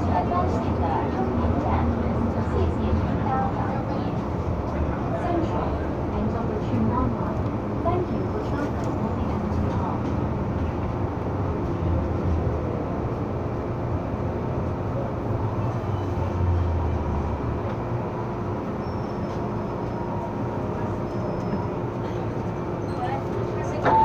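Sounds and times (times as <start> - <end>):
constant hum: 0.0 - 24.0
train wheels rumbling on rail: 0.0 - 24.0.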